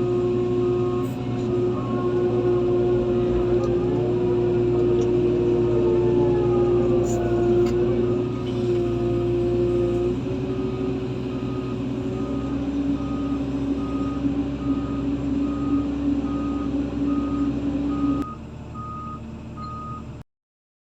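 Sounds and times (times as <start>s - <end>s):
reversing alarm beeping: 0.0s - 20.1s
diesel engine running: 0.0s - 20.2s.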